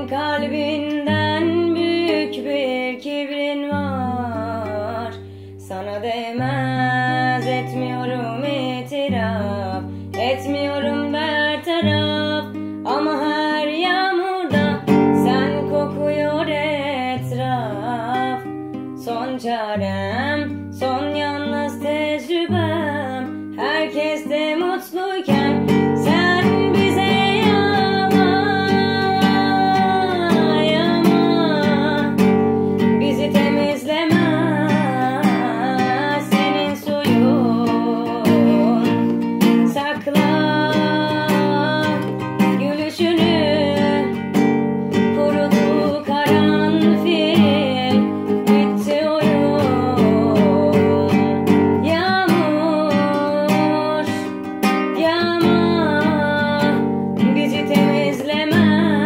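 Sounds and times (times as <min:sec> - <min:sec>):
person singing: 0:00.0 - 0:59.0
acoustic guitar strumming: 0:06.3 - 0:59.0.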